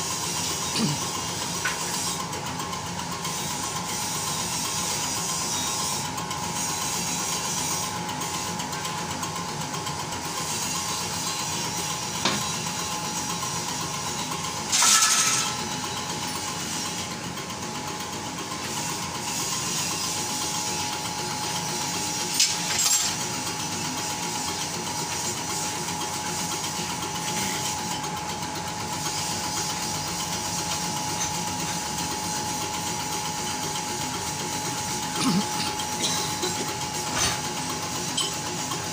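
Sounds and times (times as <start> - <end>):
injection pump test bench whine: 0.0 - 38.9.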